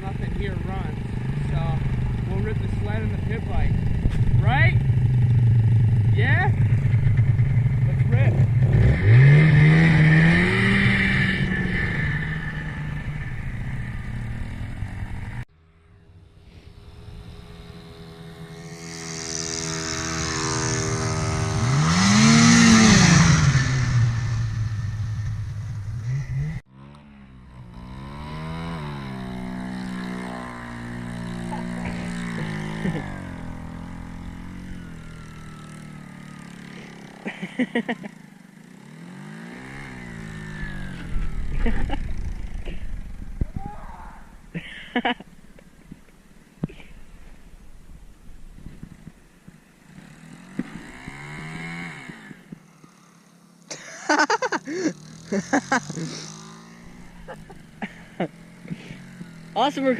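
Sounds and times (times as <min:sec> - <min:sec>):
off-road vehicle engine revving: 0:00.0 - 0:15.5, 0:16.2 - 0:43.6, 0:49.8 - 0:59.9.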